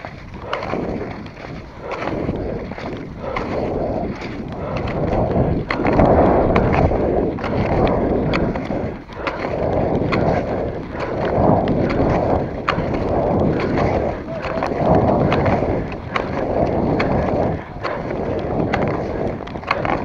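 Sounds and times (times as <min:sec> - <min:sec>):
ski poles clicking: 0:00.0 - 0:20.0
skis scraping over snow: 0:00.0 - 0:20.0
wind on microphone: 0:00.0 - 0:20.0.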